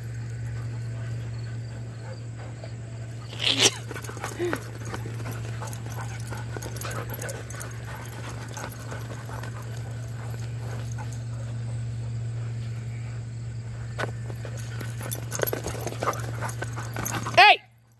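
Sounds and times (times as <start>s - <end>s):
steady low hum: 0.0s - 17.9s
dogs scuffling on grass: 3.0s - 17.6s.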